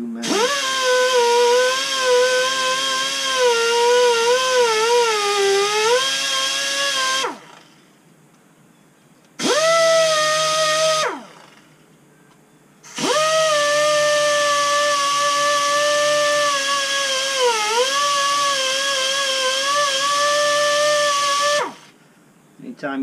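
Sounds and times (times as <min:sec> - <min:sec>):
air die grinder whining: 0:00.2 - 0:07.7, 0:09.4 - 0:11.6, 0:12.9 - 0:22.0.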